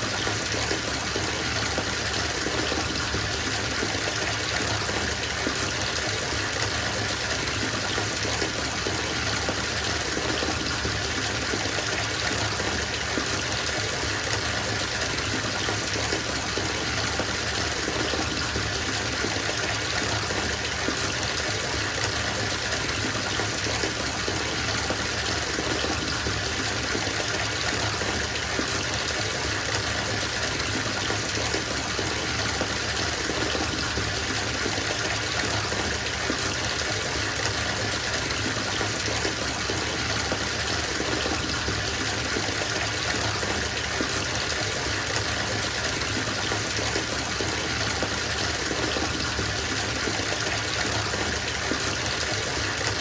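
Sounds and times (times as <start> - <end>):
water gushing into bathtub: 0.0 - 53.0.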